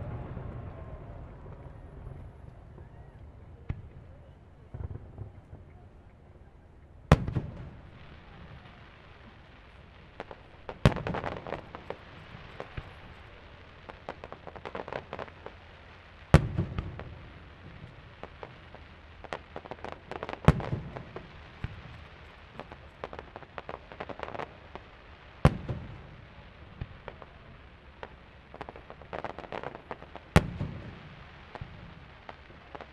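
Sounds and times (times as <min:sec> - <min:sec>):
fireworks bursting with loud bangs: 0:00.0 - 0:06.4, 0:07.0 - 0:32.9.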